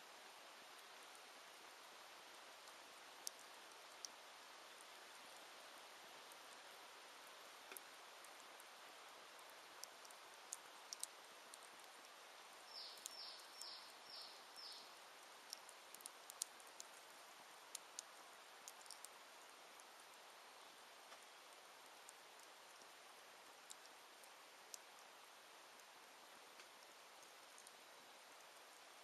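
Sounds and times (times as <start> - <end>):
wood fire crackling: 2.5 - 5.4, 7.5 - 27.9.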